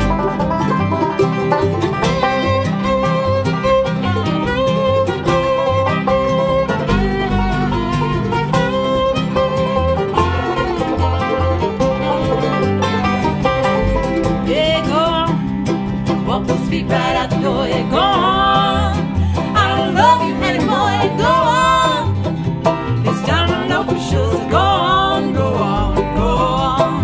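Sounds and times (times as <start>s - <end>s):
bluegrass band playing: 0.0s - 27.0s.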